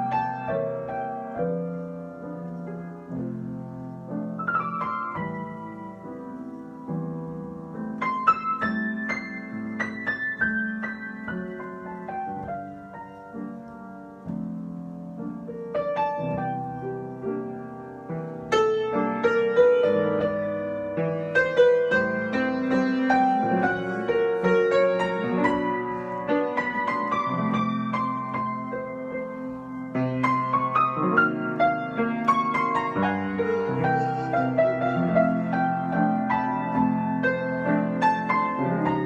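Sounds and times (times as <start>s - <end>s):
solo piano improvising: 0.0s - 39.0s.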